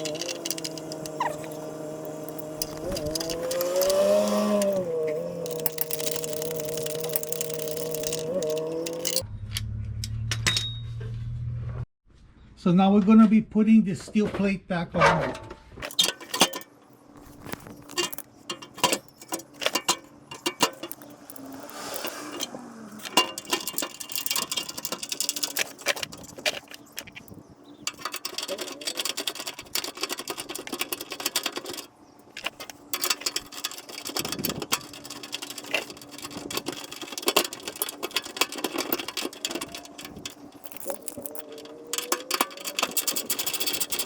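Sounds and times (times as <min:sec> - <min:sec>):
metal clinks and knocks: 0:00.0 - 0:09.2, 0:15.3 - 0:44.0
ratchet clicking: 0:00.0 - 0:09.2, 0:17.8 - 0:44.0.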